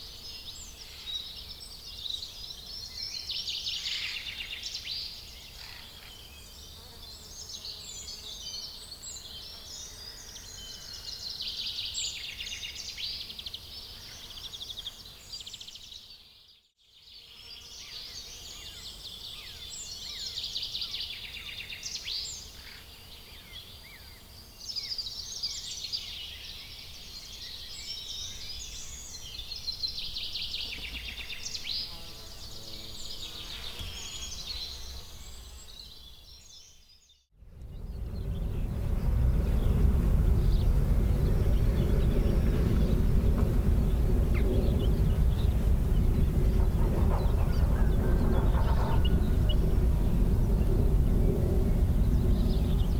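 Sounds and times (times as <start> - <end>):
small birds chirping chorus: 0.0 - 52.9.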